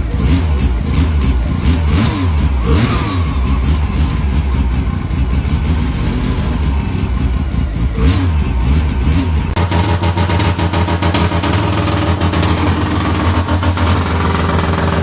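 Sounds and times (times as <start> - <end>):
engine with choppy pulsing beat: 0.0 - 15.0
rotary engine revving: 0.0 - 15.0.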